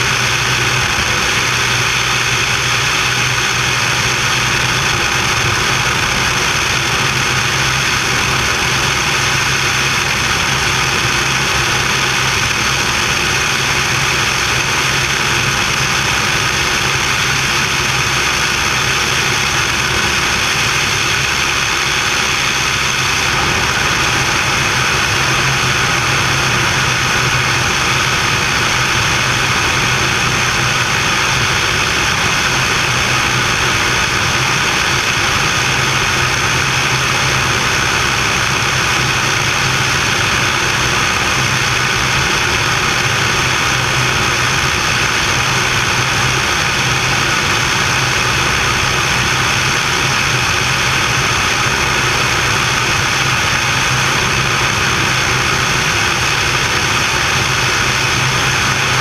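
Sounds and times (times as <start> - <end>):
air rushing over microphone: 0.0 - 59.0
aircraft engine droning: 0.0 - 59.0.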